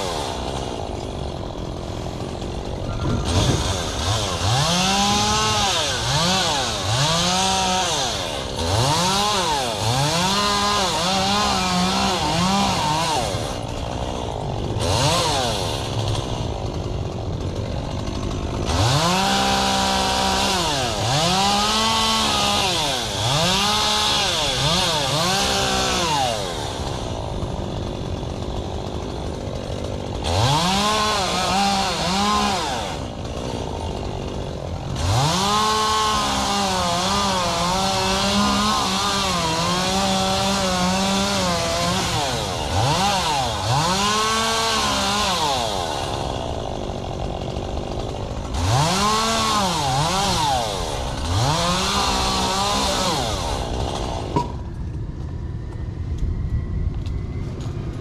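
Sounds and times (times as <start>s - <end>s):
chainsaw revving and idling: 0.0s - 54.8s.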